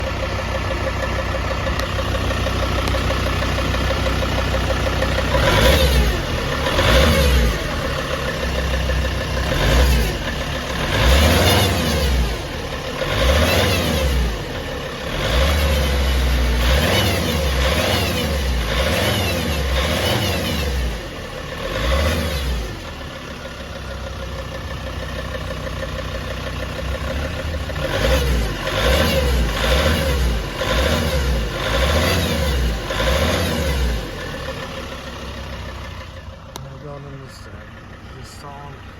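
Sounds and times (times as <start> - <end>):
diesel engine idling and revving: 0.0 - 38.9
strange engine noise: 0.0 - 38.9.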